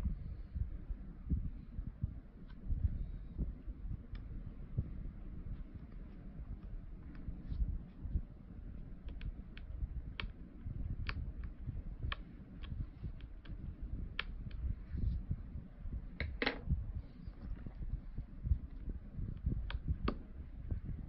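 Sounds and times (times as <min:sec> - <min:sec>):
low rumble of handling: 0:00.0 - 0:21.0.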